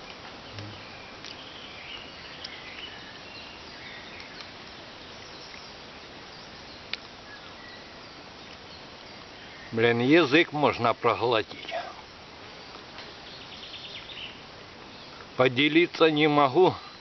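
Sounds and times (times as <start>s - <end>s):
steady background hiss: 0.0s - 17.0s
faint bird chirps: 0.4s - 15.3s.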